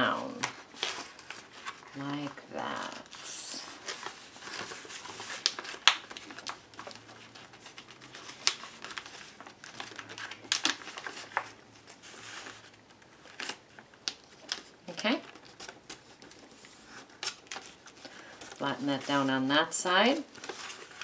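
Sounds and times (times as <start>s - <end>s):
magazine paper rustling and crinkling: 0.0s - 21.0s.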